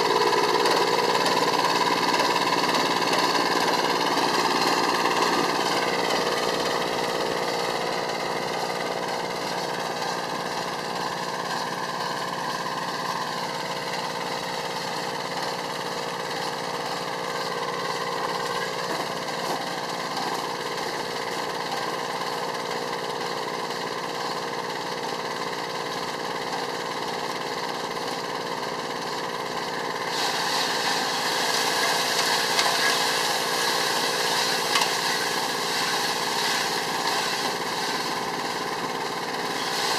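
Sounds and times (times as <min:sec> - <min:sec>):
snowblower engine idling: 0:00.0 - 0:39.9.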